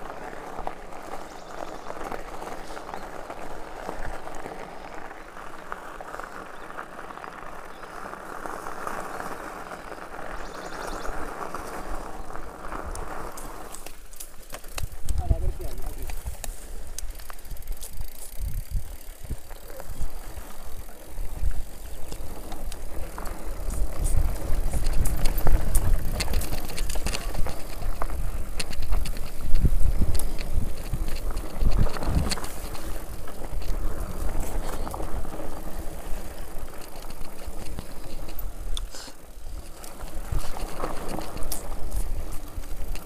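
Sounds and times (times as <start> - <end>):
bike rattling over bumps: 0.0 - 43.0
bike tyres rumbling on dirt trail: 0.0 - 43.0.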